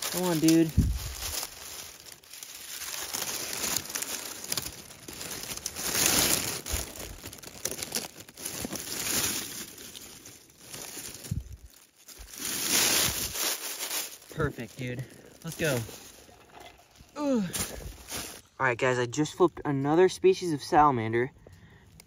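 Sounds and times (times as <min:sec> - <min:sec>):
dry leaves rustling: 0:00.0 - 0:18.6.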